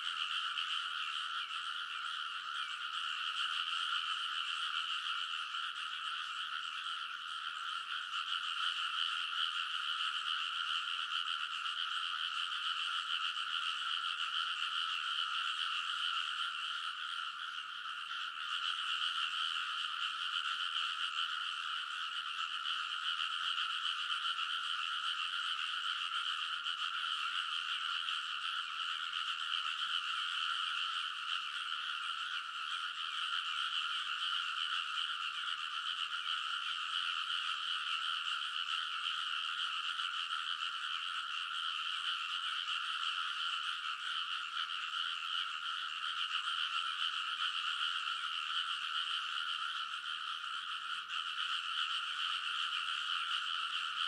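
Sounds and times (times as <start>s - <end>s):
chorus of frogs croaking: 0.0s - 54.0s.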